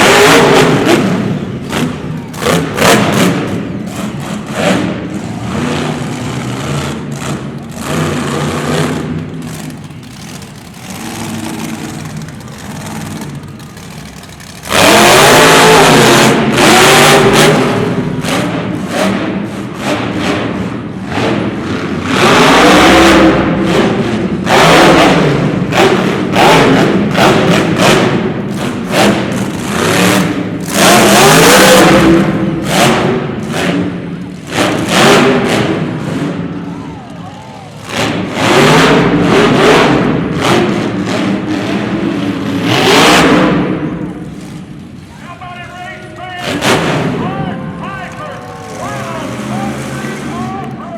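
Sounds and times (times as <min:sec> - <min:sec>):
truck engine revving hard: 0:00.0 - 0:45.1, 0:46.2 - 0:50.8.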